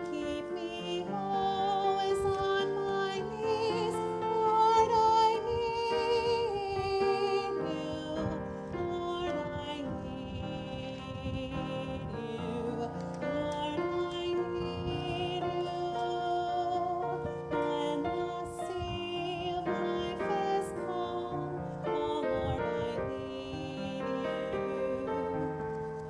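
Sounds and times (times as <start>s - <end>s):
instrumental accompaniment: 0.0s - 26.0s
woman singing with vibrato: 0.0s - 26.0s.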